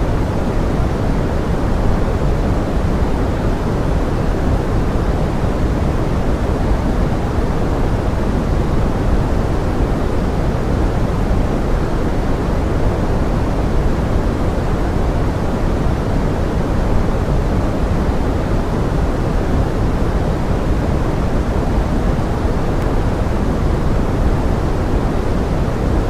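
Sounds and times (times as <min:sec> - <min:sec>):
rain hiss: 0:00.0 - 0:26.0.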